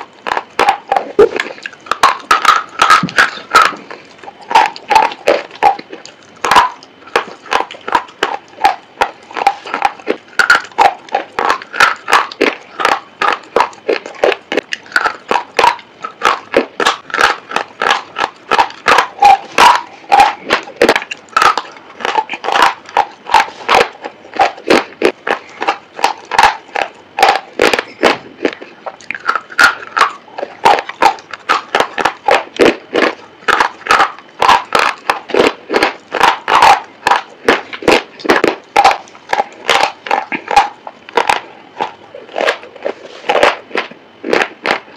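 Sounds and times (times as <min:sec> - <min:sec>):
crunching of chewed sticks: 0:00.0 - 0:44.9.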